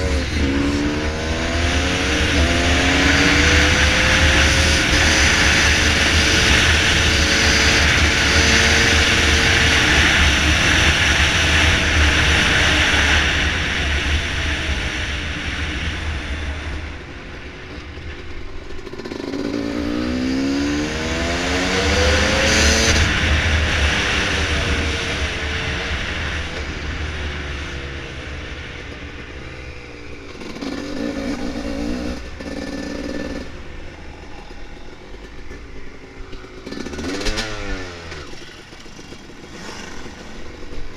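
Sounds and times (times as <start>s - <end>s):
dirt bike engine revving: 0.0s - 14.9s, 18.9s - 26.4s, 30.3s - 40.9s.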